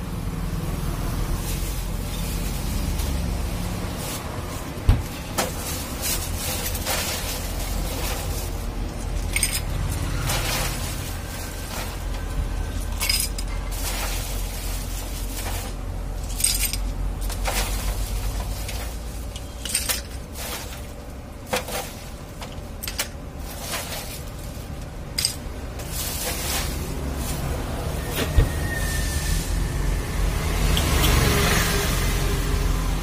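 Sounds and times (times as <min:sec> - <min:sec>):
plastic bag rustling: 0:01.2 - 0:29.6.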